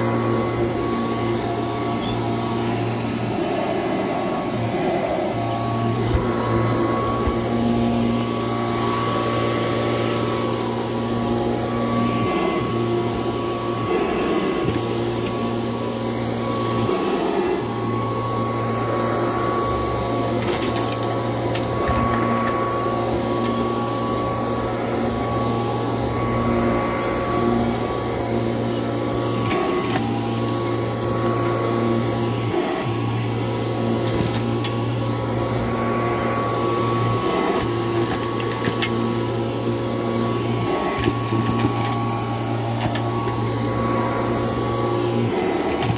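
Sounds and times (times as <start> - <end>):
vacuum cleaner running over rug: 0.0 - 45.9.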